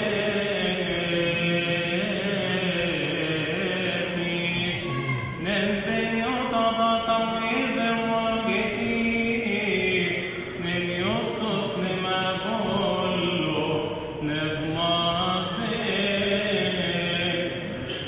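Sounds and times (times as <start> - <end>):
man chanting a hymn: 0.0 - 18.0.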